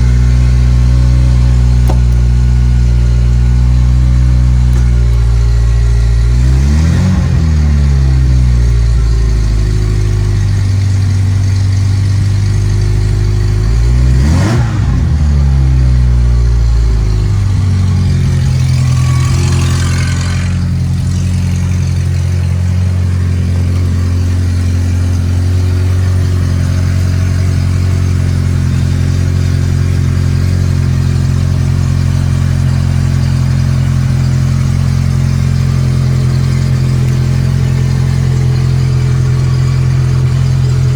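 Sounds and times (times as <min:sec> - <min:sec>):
car engine idling: 0:00.0 - 0:40.9
car engine throttle blips: 0:00.0 - 0:40.9.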